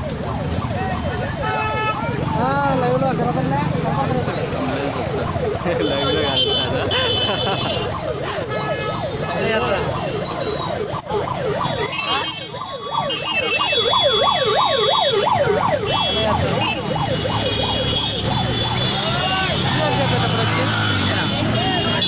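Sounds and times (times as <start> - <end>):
ambulance siren yelping: 0.0 - 22.0
motorcycle engines running: 0.0 - 22.0.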